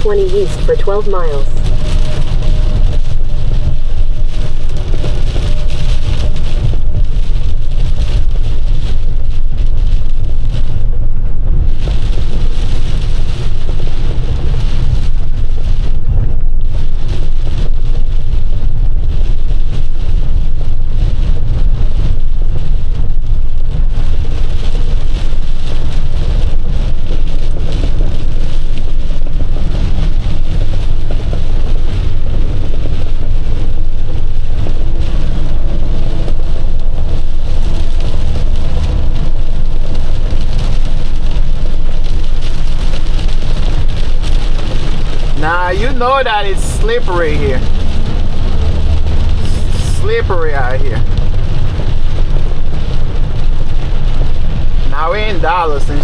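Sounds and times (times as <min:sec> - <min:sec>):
rain hiss on wet pavement: 0:00.0 - 0:56.0
truck engine and road rumble: 0:00.0 - 0:56.0.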